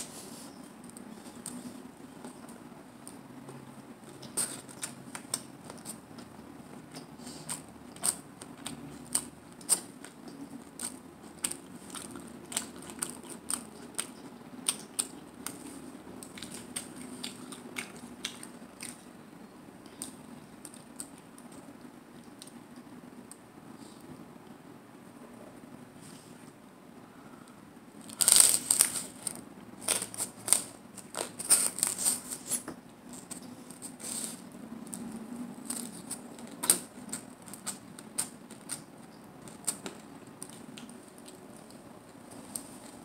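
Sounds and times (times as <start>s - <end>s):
chewing crunchy taco: 0.8s - 19.2s, 19.8s - 22.9s, 28.0s - 43.0s.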